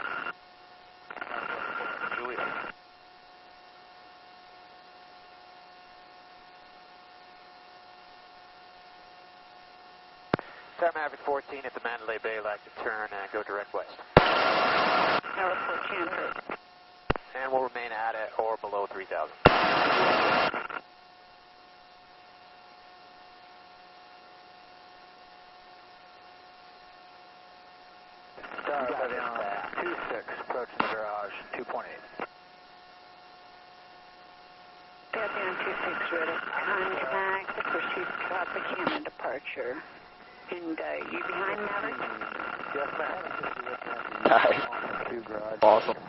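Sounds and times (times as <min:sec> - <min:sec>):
headset intercom hiss and hum: 0:00.0 - 0:46.0.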